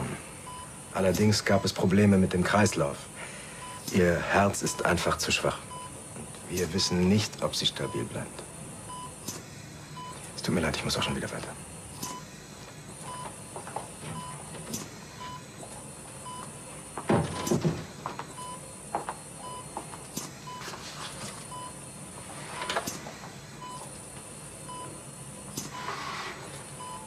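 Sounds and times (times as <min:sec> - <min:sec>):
patient monitor beeping: 0:00.0 - 0:09.4, 0:10.0 - 0:27.0
ventilator air rushes: 0:00.0 - 0:27.0.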